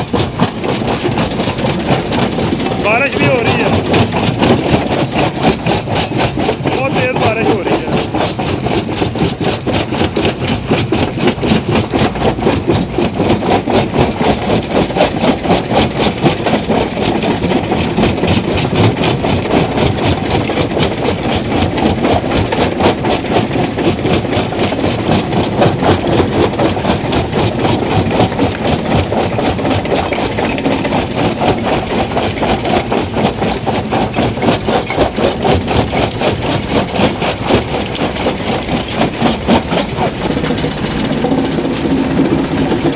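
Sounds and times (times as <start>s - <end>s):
stone crusher knocking: 0.0s - 20.9s, 21.5s - 42.9s.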